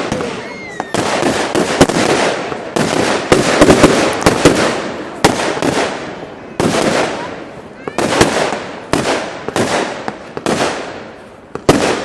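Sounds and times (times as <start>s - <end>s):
fireworks crackling: 0.0s - 12.0s
fireworks sharp bangs: 0.0s - 12.0s.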